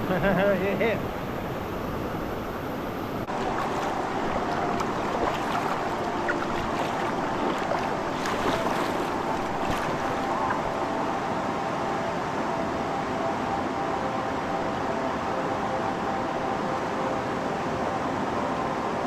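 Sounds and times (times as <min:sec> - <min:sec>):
river water rushing and splashing: 0:01.0 - 0:19.0.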